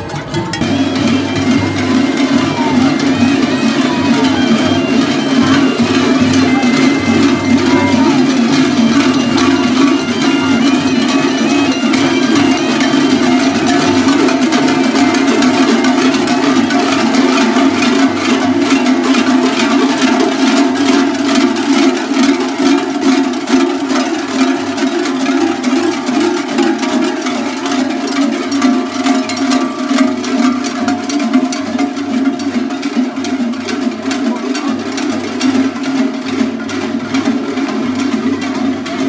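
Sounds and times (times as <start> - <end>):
large cowbells clanging: 0.0 - 39.0.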